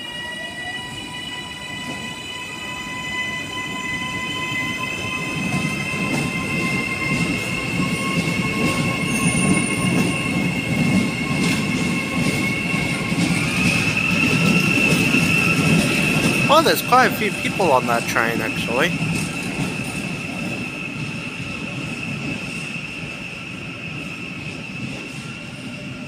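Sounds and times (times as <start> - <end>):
electric train high whine: 0.0 - 26.0.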